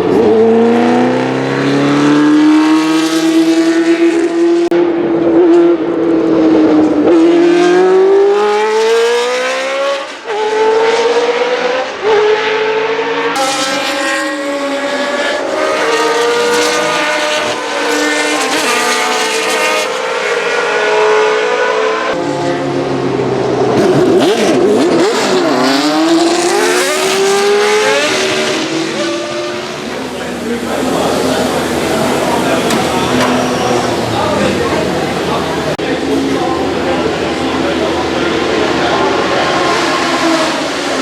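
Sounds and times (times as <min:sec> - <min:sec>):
racing car engine at high revs: 0:00.0 - 0:41.0.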